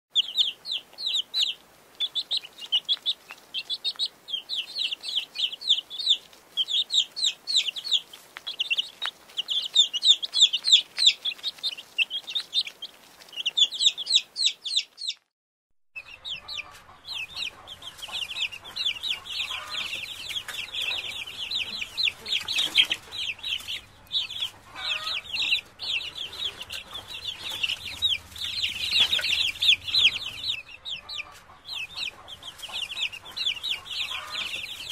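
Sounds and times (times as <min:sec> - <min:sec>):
chicks peeping: 0:00.1 - 0:15.3, 0:16.0 - 0:34.9
hen clucking: 0:00.2 - 0:15.2, 0:16.0 - 0:34.9.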